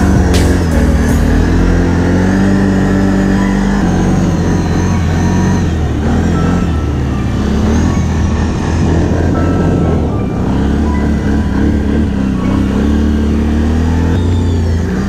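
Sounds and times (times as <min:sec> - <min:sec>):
engine running under load: 0:00.0 - 0:15.0.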